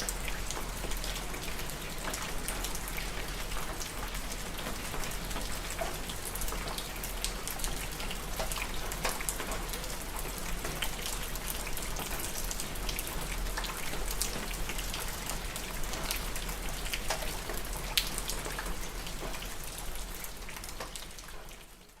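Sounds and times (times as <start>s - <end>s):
rain drops pattering: 0.0s - 22.0s.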